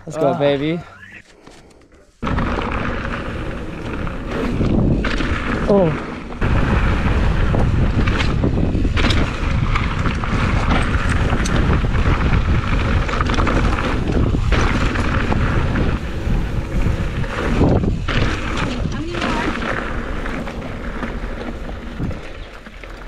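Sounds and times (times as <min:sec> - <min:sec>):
wind buffeting microphone: 0:02.2 - 0:22.5
bike knocks and clatters: 0:02.3 - 0:05.8, 0:06.4 - 0:16.0, 0:16.8 - 0:23.0.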